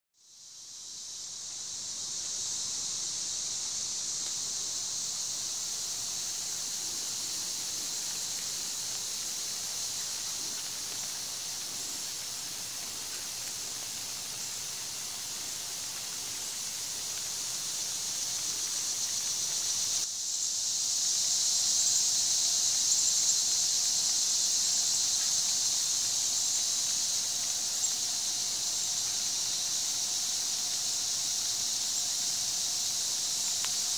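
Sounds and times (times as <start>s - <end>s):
sprinkler spraying water hiss: 0.2s - 33.9s.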